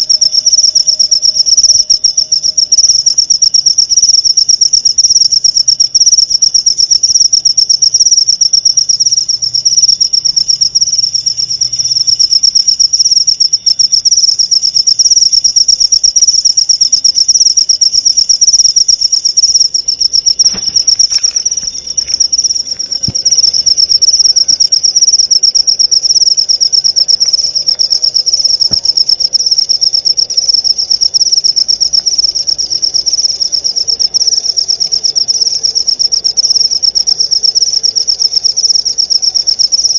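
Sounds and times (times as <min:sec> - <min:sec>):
cricket trilling: 0:00.0 - 0:39.9.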